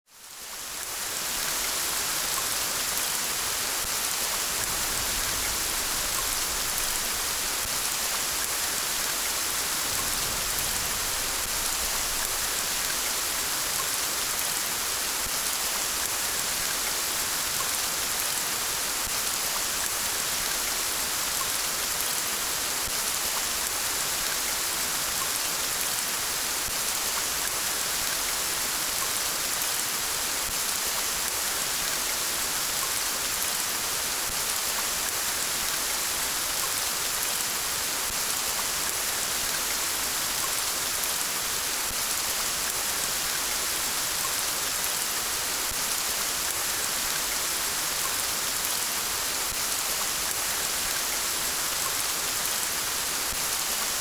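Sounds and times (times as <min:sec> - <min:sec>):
rain falling steadily: 0:00.1 - 0:54.0.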